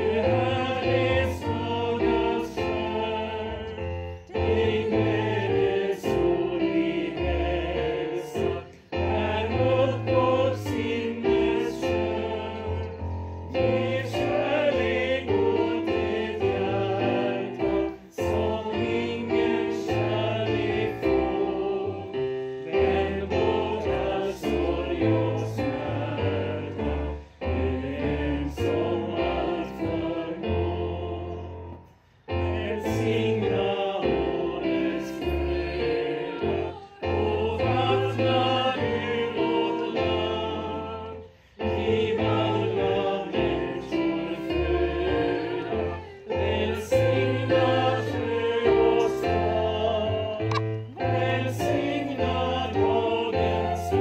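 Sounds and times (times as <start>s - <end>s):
choir singing a hymn: 0.0s - 54.0s
keyboard accompaniment: 0.0s - 54.0s.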